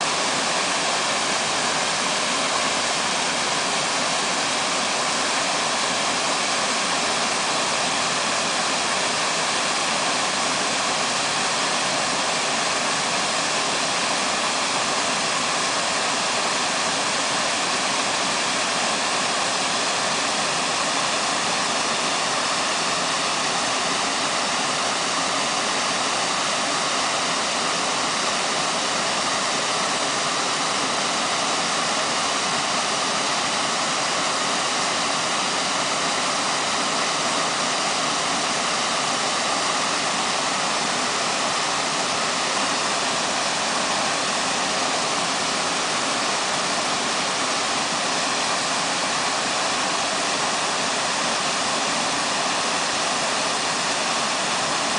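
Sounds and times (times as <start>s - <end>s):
waterfall pouring and splashing: 0.0s - 54.9s.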